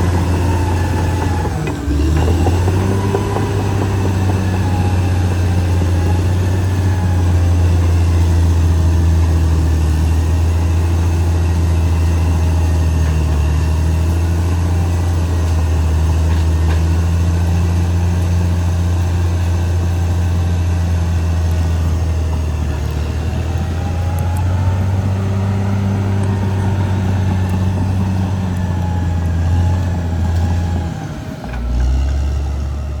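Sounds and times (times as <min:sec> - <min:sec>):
bulldozer diesel engine droning: 0:00.0 - 0:33.0.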